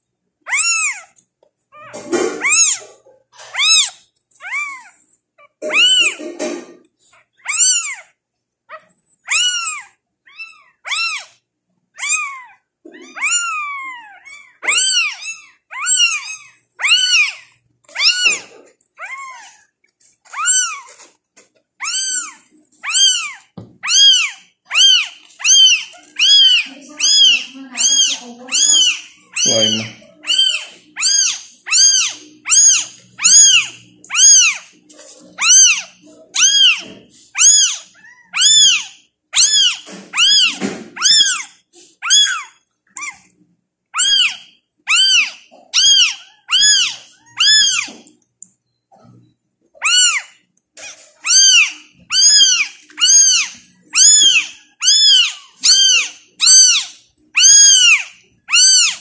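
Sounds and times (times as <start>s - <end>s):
kitten crying: 0.4s - 1.2s, 1.8s - 11.4s, 12.0s - 19.7s, 20.3s - 21.1s, 21.8s - 43.3s, 43.9s - 48.1s, 49.8s - 59.0s.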